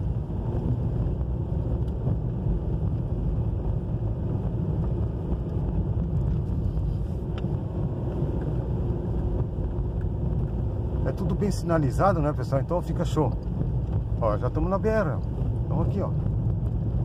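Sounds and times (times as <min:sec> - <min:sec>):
car driving on dirt road: 0:00.0 - 0:17.0.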